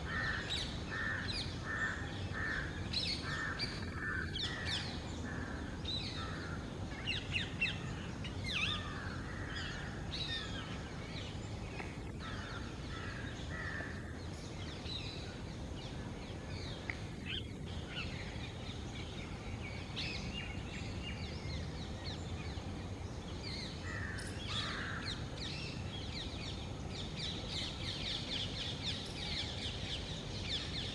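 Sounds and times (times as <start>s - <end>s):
bird calls and chirps: 0.0s - 30.9s
low background noise: 0.0s - 30.9s.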